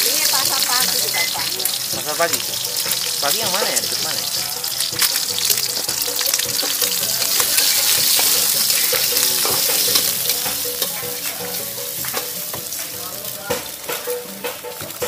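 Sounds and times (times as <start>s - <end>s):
food sizzling in a hot pan: 0.0s - 15.0s.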